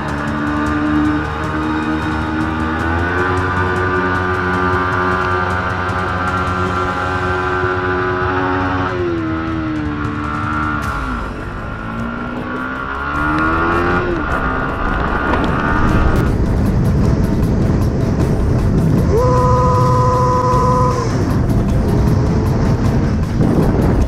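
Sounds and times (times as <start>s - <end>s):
motorcycle engine running: 0.0s - 24.0s
rough rushing noise: 0.0s - 24.0s.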